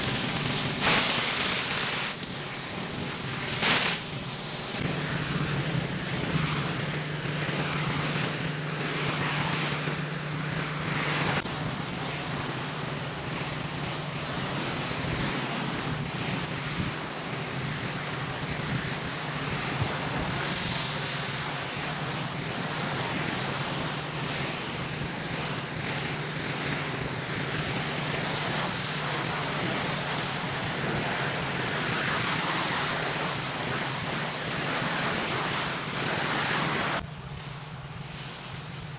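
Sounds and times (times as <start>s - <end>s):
high-pressure water spraying concrete: 0.0s - 38.9s
pressure washer engine hum: 0.0s - 38.9s.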